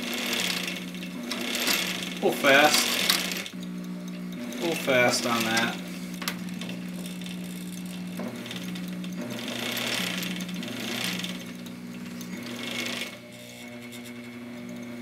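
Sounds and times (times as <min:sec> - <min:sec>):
small electric motor humming: 0:00.0 - 0:15.0.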